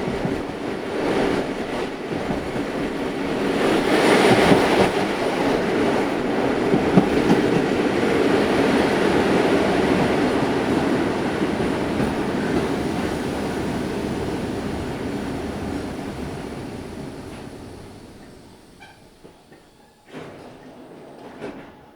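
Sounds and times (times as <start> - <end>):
train rumbling on rails: 0.0 - 21.9.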